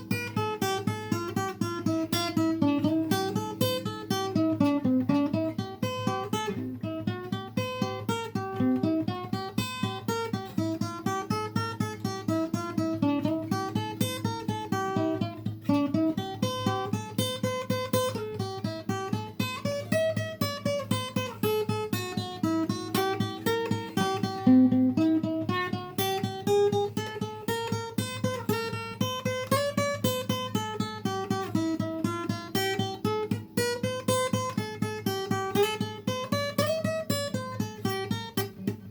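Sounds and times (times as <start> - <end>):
acoustic guitar plucked notes: 0.0 - 38.9.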